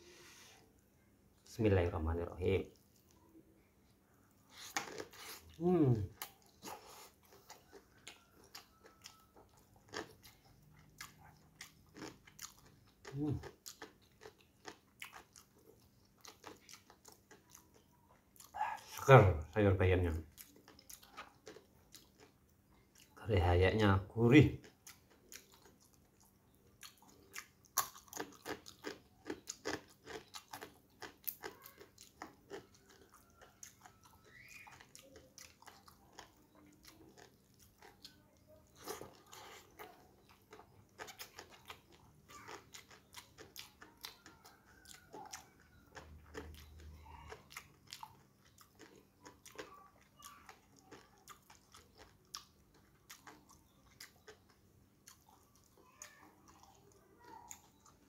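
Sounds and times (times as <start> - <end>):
person chewing crunchy food: 4.3 - 19.1, 20.1 - 23.2, 24.6 - 58.0.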